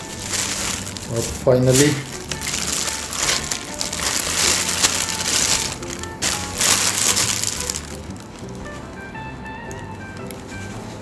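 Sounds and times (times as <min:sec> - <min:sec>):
bubble wrap crinkling: 0:00.0 - 0:09.0, 0:10.0 - 0:11.0
quiet background music: 0:00.0 - 0:11.0.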